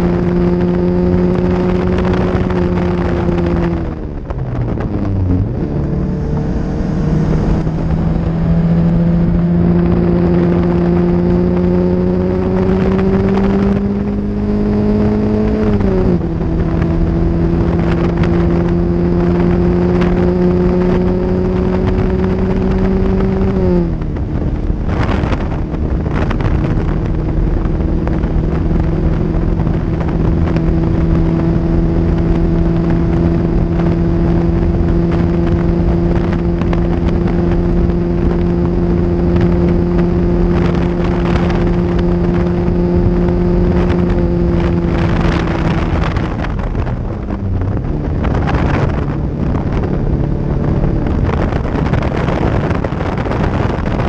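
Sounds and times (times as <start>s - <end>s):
car engine at high revs: 0.0s - 54.0s
wind buffeting: 0.0s - 54.0s.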